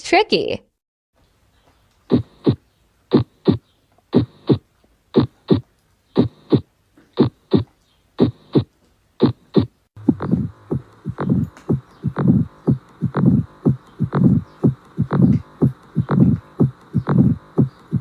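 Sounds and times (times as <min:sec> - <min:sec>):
heartbeat lub-dub: 0:02.1 - 0:04.6, 0:05.2 - 0:05.6, 0:06.2 - 0:18.0.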